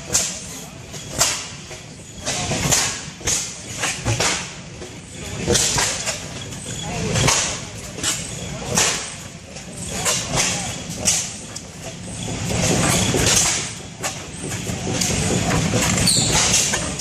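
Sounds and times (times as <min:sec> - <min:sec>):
gas engines popping: 0:00.0 - 0:17.0.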